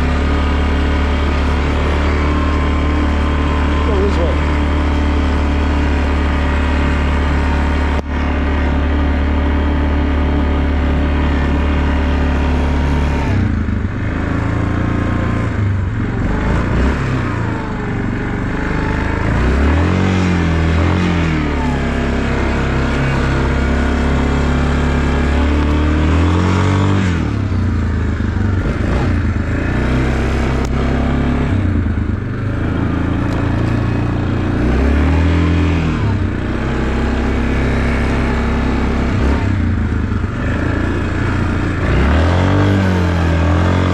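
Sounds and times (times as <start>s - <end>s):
off-road vehicle engine revving: 0.0s - 43.9s.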